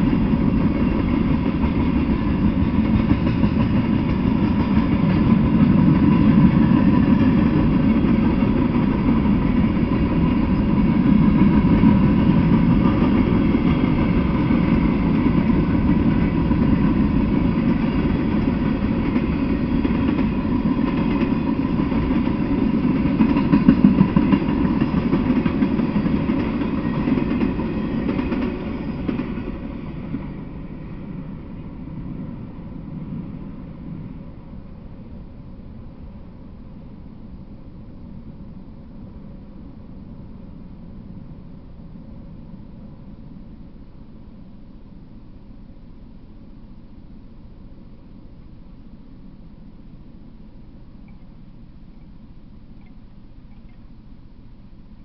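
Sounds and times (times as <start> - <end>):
freight train wheels rumbling: 0.0 - 44.5.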